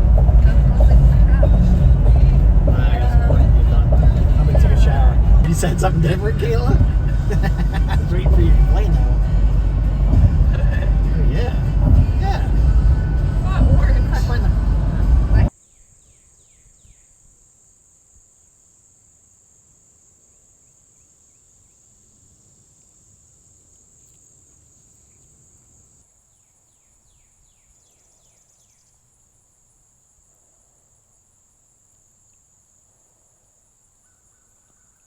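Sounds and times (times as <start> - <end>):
crickets trilling: 0.0 - 14.4, 15.5 - 35.0.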